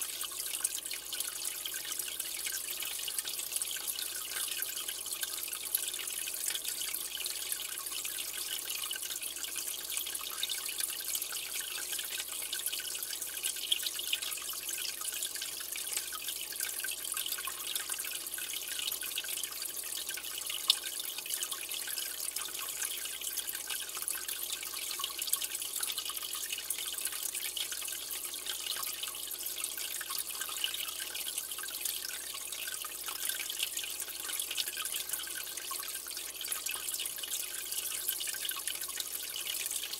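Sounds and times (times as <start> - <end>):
aquarium water trickling: 0.0 - 39.9
water dripping: 0.0 - 39.9.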